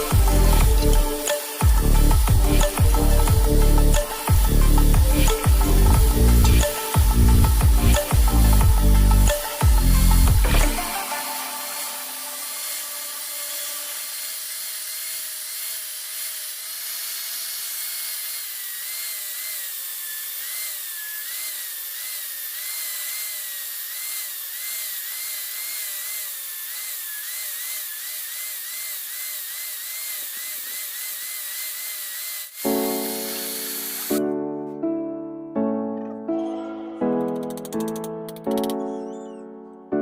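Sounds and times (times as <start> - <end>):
electric grinder grinding steel: 0.0 - 34.2.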